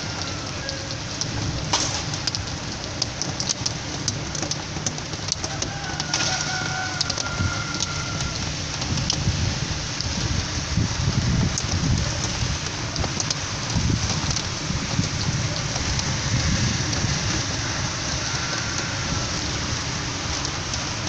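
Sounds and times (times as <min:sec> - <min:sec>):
heavy rain with drop clicks: 0:00.0 - 0:21.0
strong wind rumbling: 0:00.0 - 0:21.0.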